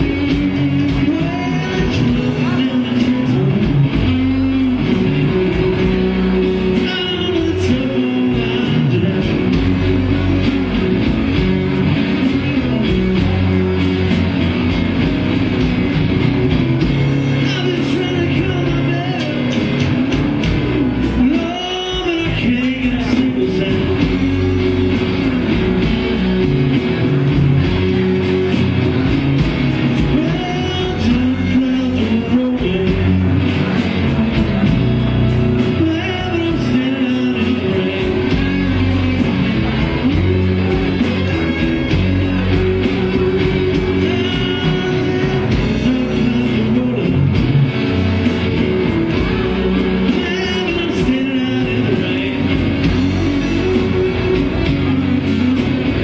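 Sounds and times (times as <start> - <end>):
blues band playing: 0.0 - 56.0.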